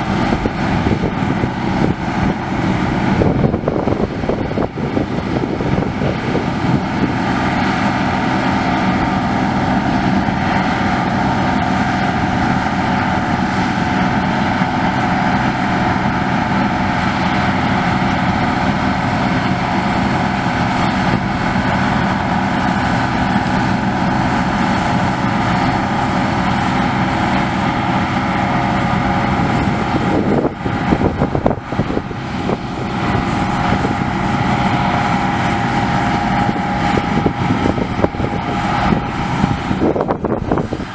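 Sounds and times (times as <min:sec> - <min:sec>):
combine harvester drone: 0:00.0 - 0:40.9.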